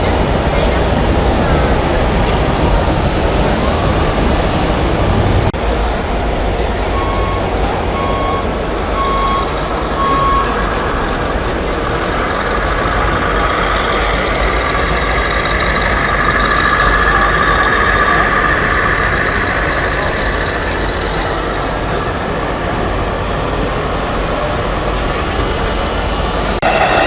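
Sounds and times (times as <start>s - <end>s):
truck diesel engine sound: 0.0s - 27.0s.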